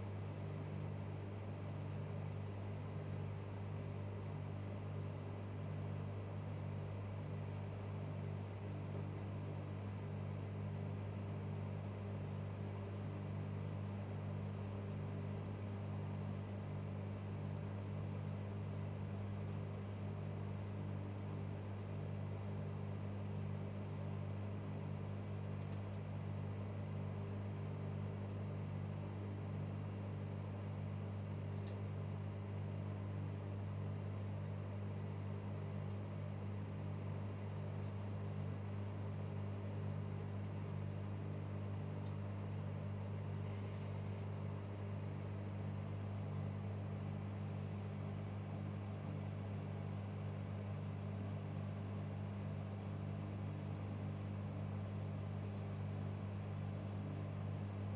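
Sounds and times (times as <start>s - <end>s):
microwave oven humming: 0.0s - 57.9s.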